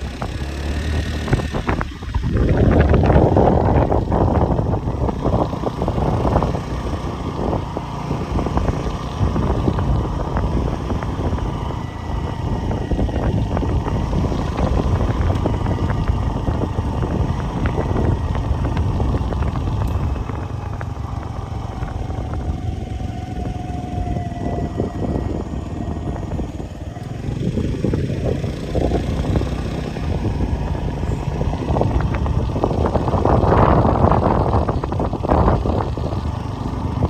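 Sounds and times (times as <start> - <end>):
motor vehicle engine rumbling: 0.0 - 37.0.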